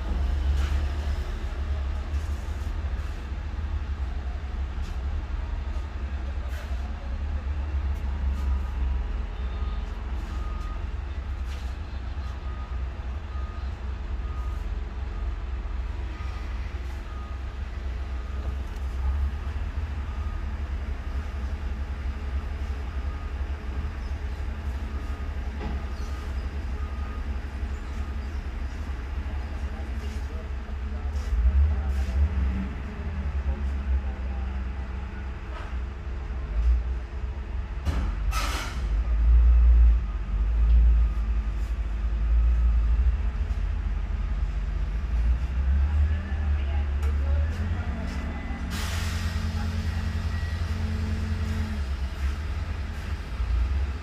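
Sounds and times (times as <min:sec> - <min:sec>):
forklift diesel engine rumble: 0:00.0 - 0:54.0.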